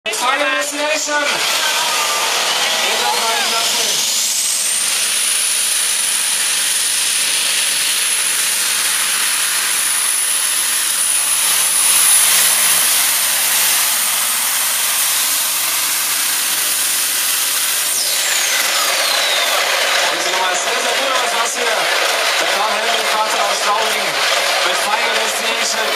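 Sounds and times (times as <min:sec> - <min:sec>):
supercharger whine: 0:00.4 - 0:25.9
pulling tractor engine: 0:01.2 - 0:25.9.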